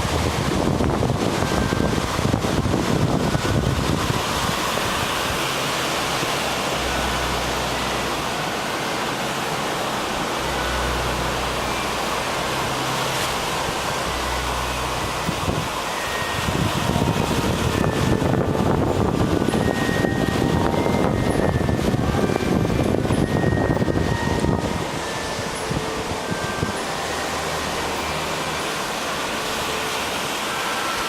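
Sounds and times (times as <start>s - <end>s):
low hum: 0.0s - 31.0s
sea surf rushing: 0.0s - 31.0s
wind: 0.0s - 31.0s.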